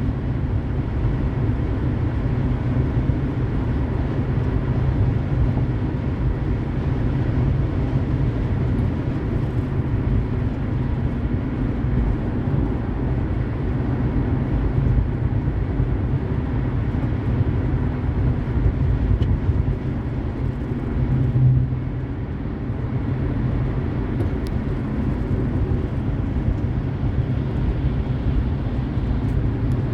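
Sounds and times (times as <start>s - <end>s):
car road and tyre noise: 0.0s - 29.9s.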